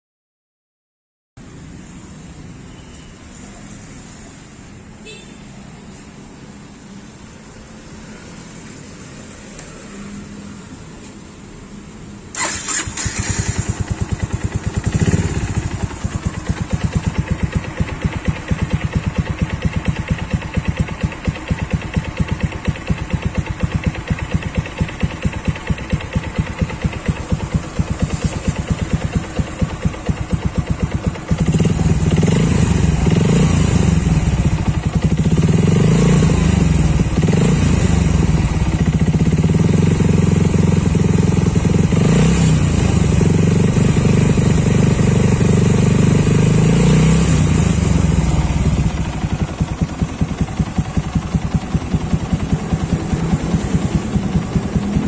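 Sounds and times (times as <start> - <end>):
motorcycle engine idling and revving: 1.4 - 55.0.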